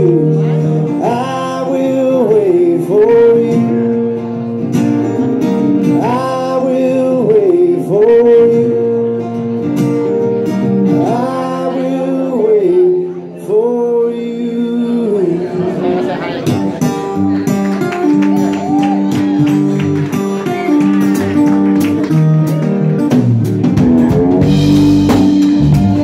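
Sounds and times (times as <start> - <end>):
blues band playing: 0.0 - 26.0
sliding lead guitar line: 0.0 - 26.0.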